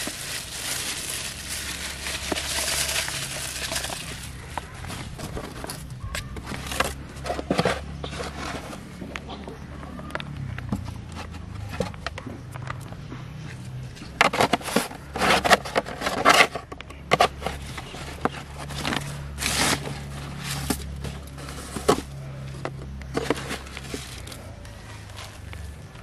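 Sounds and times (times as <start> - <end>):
plastic rustling and clattering: 0.0 - 9.4, 13.9 - 26.0.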